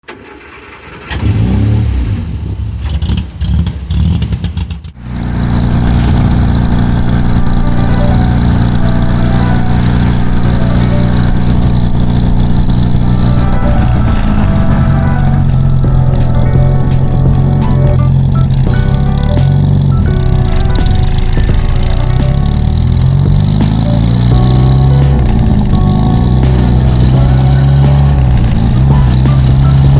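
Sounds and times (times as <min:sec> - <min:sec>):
car engine revving: 0:05.0 - 0:29.9.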